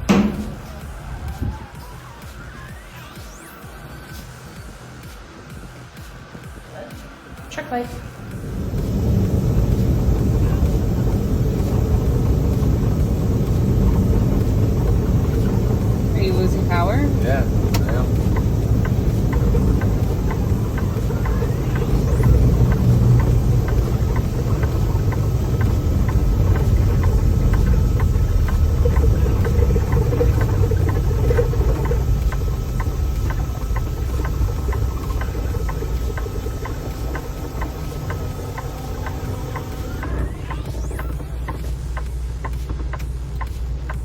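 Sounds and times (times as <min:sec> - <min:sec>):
diesel truck engine drone: 0:00.0 - 0:05.2, 0:05.8 - 0:44.0
faint steady ticking: 0:00.0 - 0:06.6, 0:07.4 - 0:44.0.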